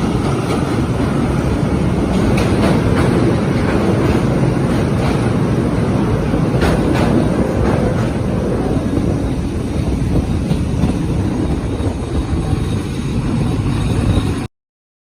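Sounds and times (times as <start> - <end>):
train rumbling on rails: 0.0 - 14.5.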